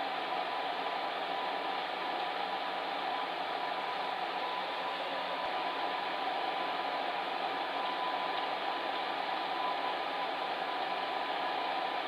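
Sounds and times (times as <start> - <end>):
fan heater blowing air: 0.0 - 12.0.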